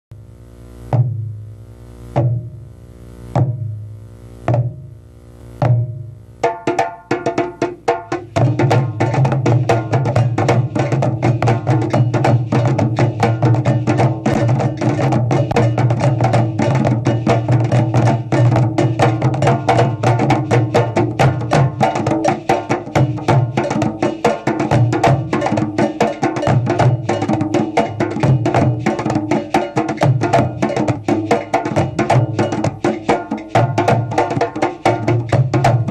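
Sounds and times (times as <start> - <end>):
drum ensemble playing: 5.6 - 35.9.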